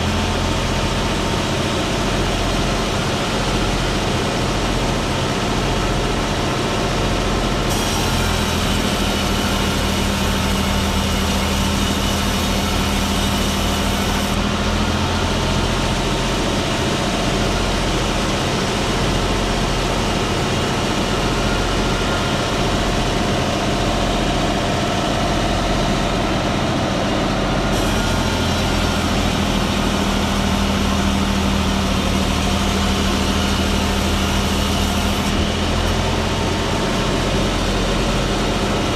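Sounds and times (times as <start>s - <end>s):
engine-driven sawing machine: 0.0s - 38.9s.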